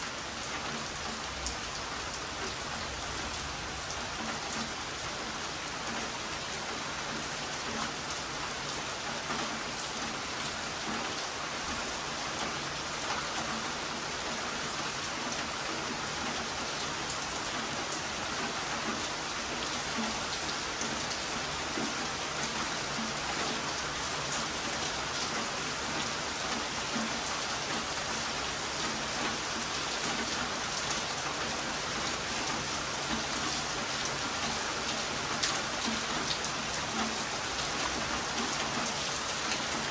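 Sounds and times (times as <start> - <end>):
heavy rain: 0.0 - 39.9
raindrops striking a surface: 0.0 - 39.9.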